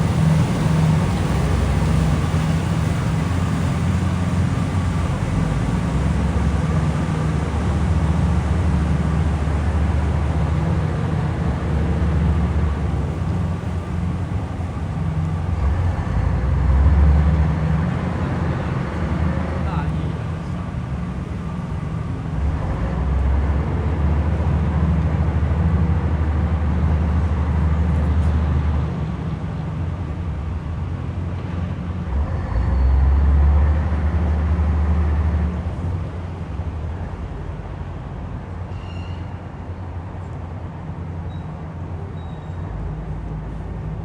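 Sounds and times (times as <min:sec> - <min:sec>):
diesel engine rumbling: 0:00.0 - 0:38.7.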